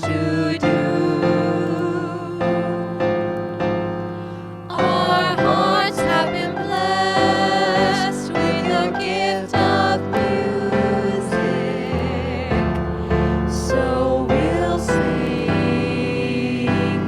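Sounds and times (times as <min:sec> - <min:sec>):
sustained accompaniment chords: 0:00.0 - 0:17.0
voices singing: 0:00.0 - 0:17.0.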